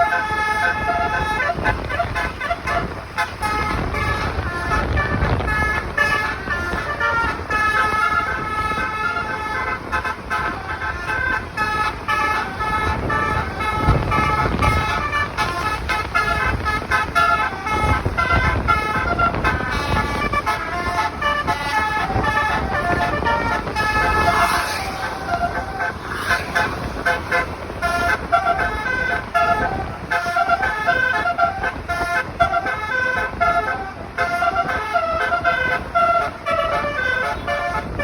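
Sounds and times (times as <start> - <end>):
low vehicle rumble: 0.0 - 38.0
multi-trumpet bus horn melody: 0.0 - 38.0.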